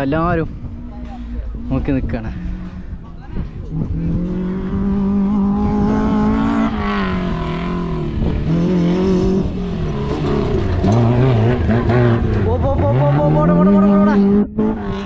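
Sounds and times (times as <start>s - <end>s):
race vehicle engine revving: 0.6s - 15.0s.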